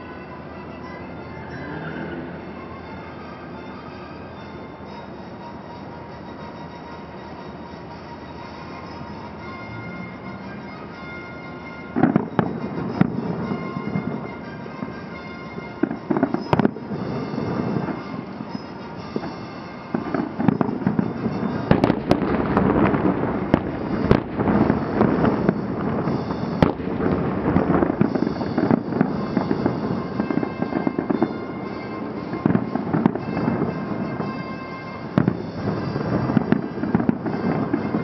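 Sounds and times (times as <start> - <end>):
fireworks bangs and crackling: 0.0 - 38.0
music with sustained tones: 0.0 - 38.0.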